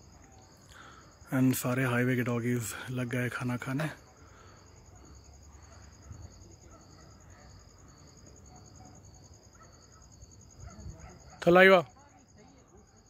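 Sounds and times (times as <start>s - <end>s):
cricket chirping: 0.0s - 13.0s
cricket high trill: 0.0s - 13.0s.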